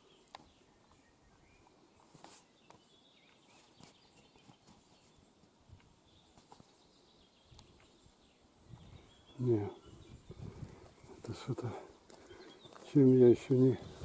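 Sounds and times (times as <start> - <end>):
distant bird chirps: 0.0 - 14.0.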